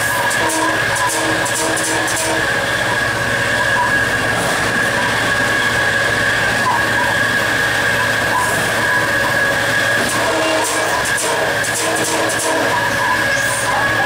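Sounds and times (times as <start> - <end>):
high-pitched whine: 0.0 - 14.0
locomotive engine and wheels rumble: 0.0 - 14.0.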